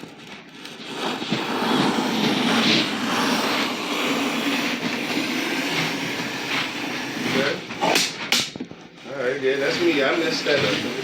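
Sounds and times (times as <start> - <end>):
blade scraping drywall: 0.0 - 11.0.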